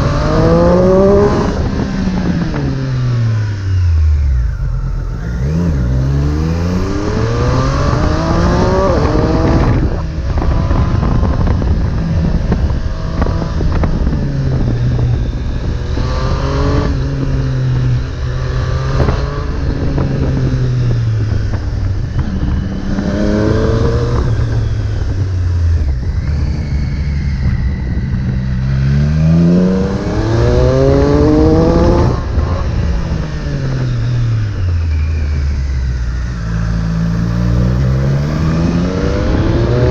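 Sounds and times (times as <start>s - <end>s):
motorcycle engine accelerating hard: 0.0s - 39.9s.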